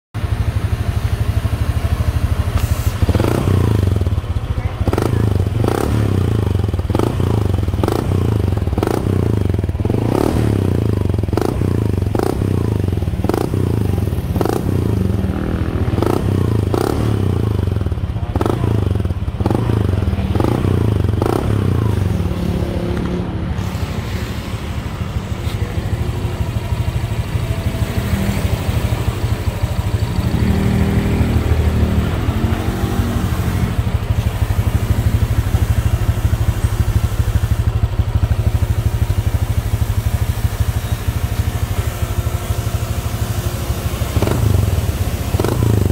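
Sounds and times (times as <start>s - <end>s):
scooter engine revving and idling: 0.2s - 45.9s.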